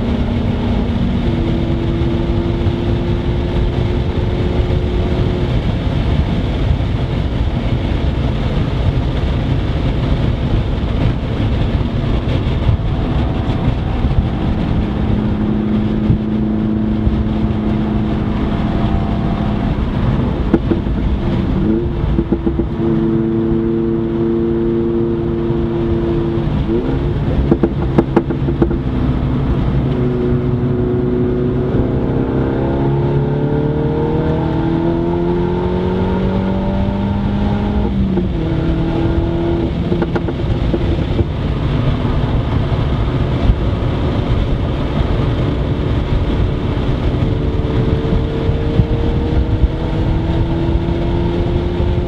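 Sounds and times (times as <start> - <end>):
car engine accelerating: 0.0 - 52.0
road and tyre noise: 0.0 - 52.0.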